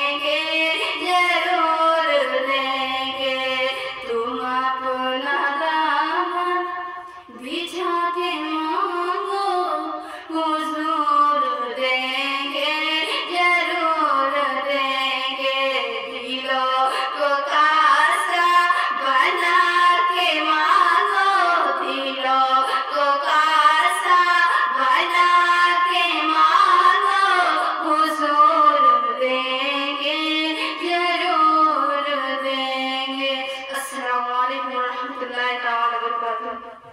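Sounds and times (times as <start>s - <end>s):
woman singing devotional song: 0.0s - 36.9s.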